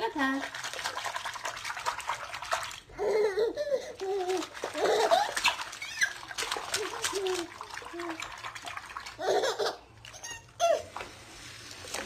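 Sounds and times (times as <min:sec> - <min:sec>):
bathwater splashing: 0:00.0 - 0:12.0.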